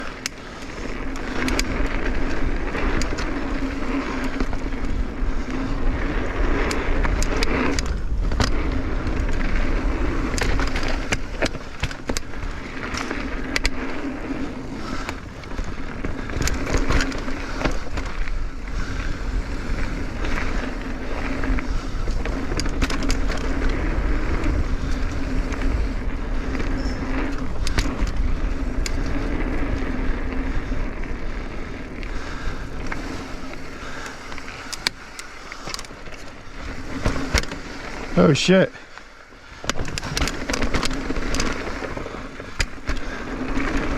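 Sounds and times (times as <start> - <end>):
bike rattling over bumps: 0.0 - 43.9
bike tyres on loose dirt: 0.0 - 43.9
wind on microphone: 0.8 - 38.2.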